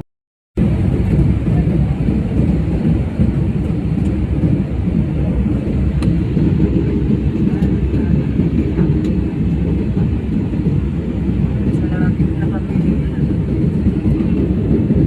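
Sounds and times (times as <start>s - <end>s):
airliner engine rumble: 0.6s - 15.0s.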